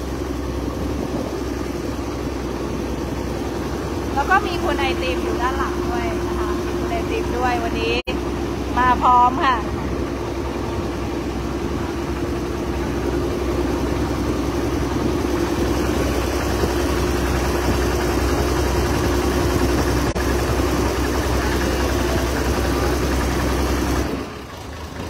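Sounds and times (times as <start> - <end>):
boat engine droning: 0.0 - 25.0
wind and water rushing past hull: 0.0 - 25.0.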